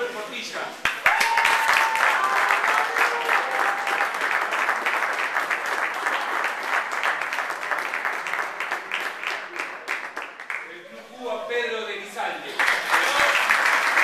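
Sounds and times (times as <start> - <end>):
spectators clapping: 0.8 - 10.8, 12.5 - 14.0.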